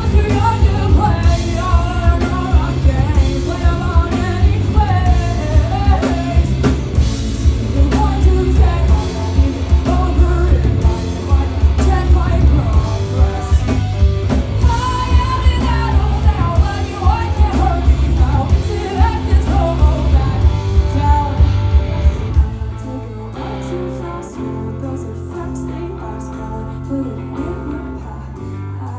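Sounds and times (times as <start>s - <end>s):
electric guitar: 0.0s - 28.9s
lead vocal singing: 0.0s - 28.9s
live rock band: 0.0s - 28.9s.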